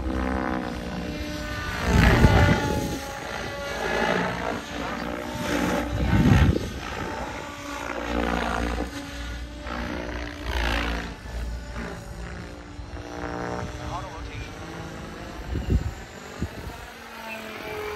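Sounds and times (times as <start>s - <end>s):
model helicopter motor whine: 0.0s - 17.9s.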